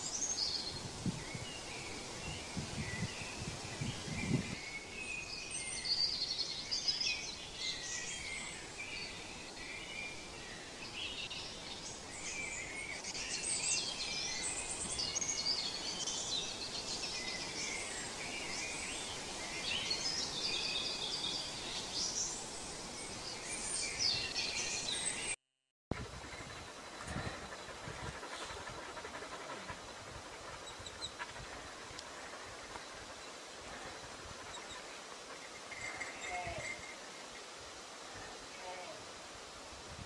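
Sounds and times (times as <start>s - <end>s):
songbirds singing and chirping: 0.0s - 39.0s.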